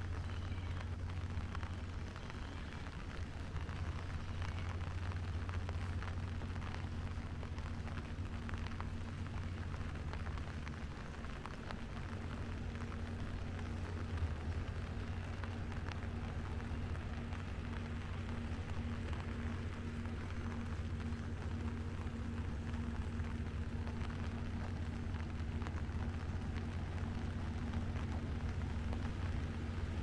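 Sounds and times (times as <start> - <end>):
rain pattering: 0.0 - 30.0
steady low hum: 0.0 - 30.0.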